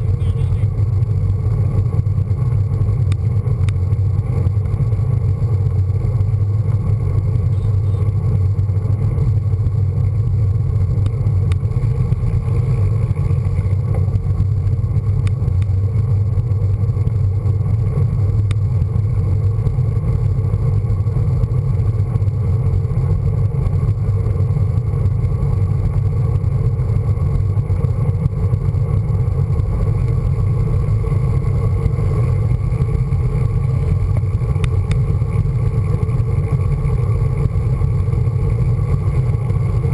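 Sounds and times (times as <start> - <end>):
bike tyre and road noise: 0.0 - 39.9
wind rumble on microphone: 0.0 - 39.9.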